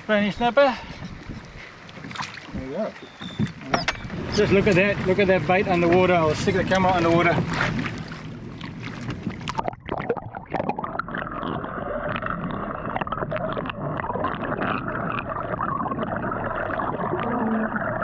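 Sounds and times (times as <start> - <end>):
underwater crackles and clicks: 0.5 - 18.0
muffled underwater water wash: 0.8 - 18.0.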